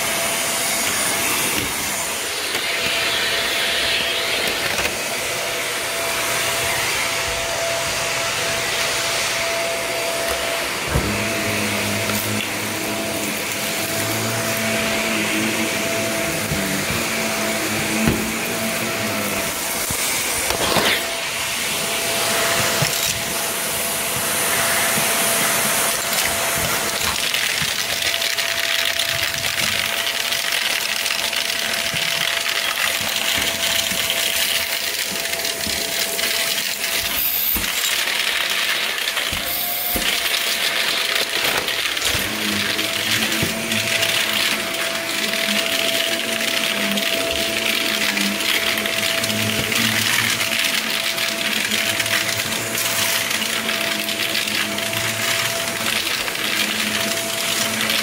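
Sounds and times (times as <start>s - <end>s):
vacuum cleaner motor whining: 0.0s - 58.0s
debris rattling in vacuum: 0.1s - 58.0s.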